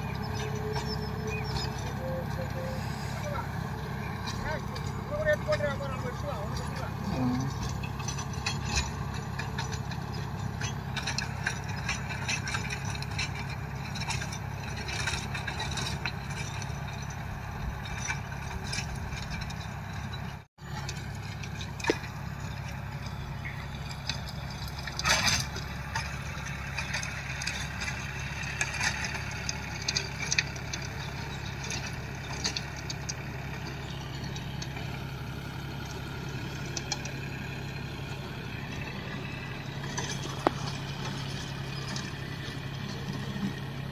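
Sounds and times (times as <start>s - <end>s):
machinery clicks and knocks: 0.0s - 43.9s
tractor diesel engine running: 0.0s - 43.9s.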